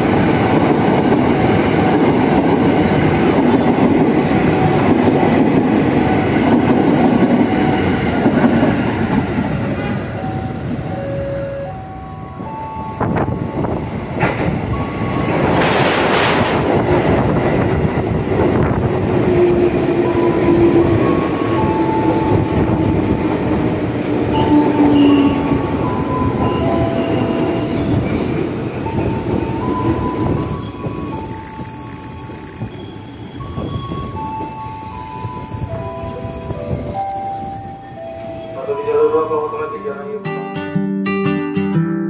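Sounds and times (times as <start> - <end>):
train wheels rumbling: 0.0 - 11.0, 12.4 - 38.7
train whine and squeals: 0.0 - 40.2.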